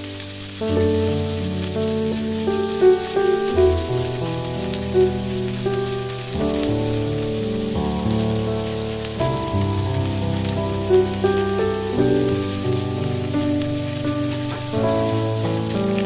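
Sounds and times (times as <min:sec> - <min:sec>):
background music of held chords: 0:00.0 - 0:16.0
shrimp sizzling in a frying pan: 0:00.0 - 0:16.0.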